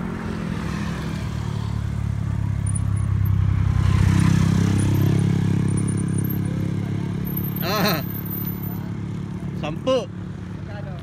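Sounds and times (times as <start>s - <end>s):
road noise: 0.0s - 11.0s
motor vehicle engine running: 1.3s - 11.0s.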